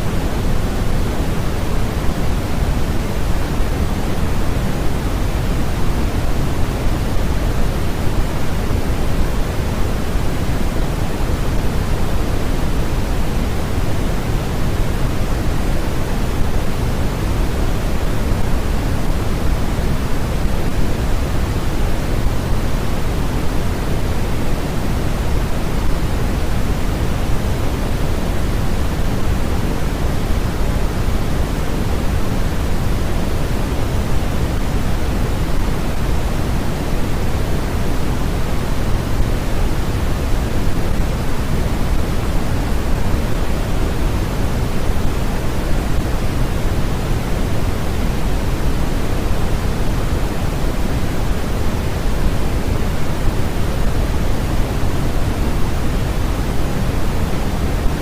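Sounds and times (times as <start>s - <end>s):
synthetic white noise: 0.0s - 58.0s.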